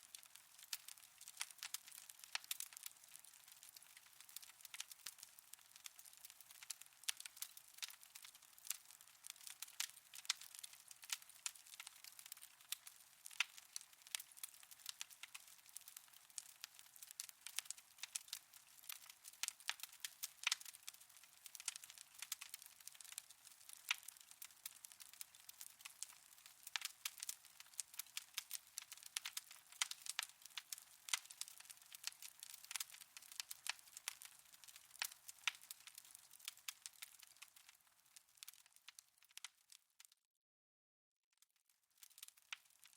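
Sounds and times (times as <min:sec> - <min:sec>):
faint fire hiss: 0:00.0 - 0:39.0
wood fire crackling and popping: 0:00.0 - 0:40.1, 0:42.0 - 0:42.9.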